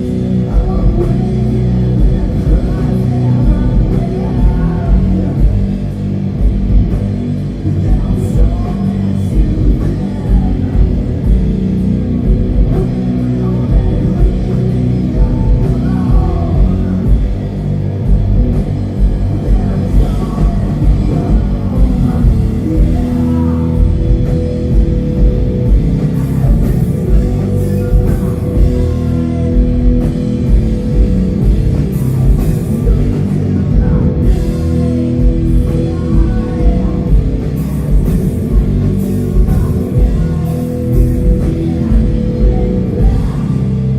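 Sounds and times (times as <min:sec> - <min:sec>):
doom metal band playing live: 0:00.0 - 0:43.9.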